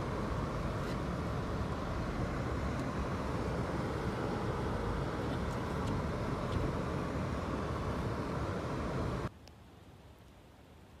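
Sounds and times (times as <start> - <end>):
car driving on snowy road: 0.0 - 9.3.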